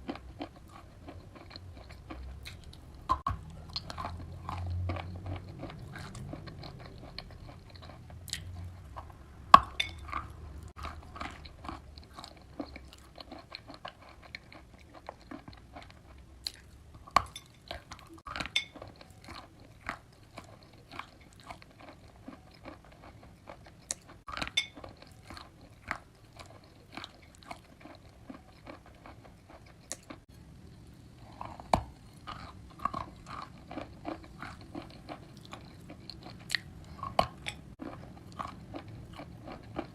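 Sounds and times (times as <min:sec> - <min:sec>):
wet chewing: 0:00.0 - 0:30.4, 0:31.2 - 0:39.9.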